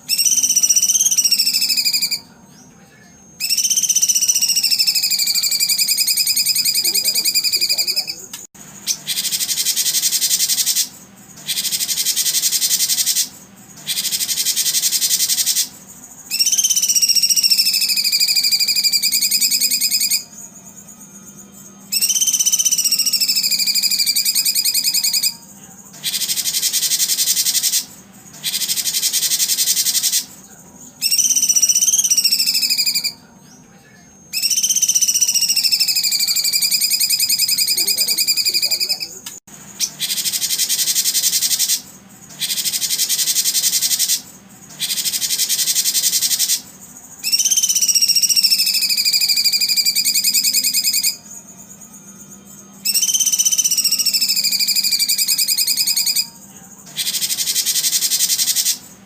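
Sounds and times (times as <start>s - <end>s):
bird rapid buzzy trill: 0.0s - 2.4s, 3.3s - 33.2s, 34.3s - 59.0s
songbird whistled notes: 0.0s - 2.7s, 3.4s - 33.6s, 34.3s - 39.2s, 39.8s - 59.0s.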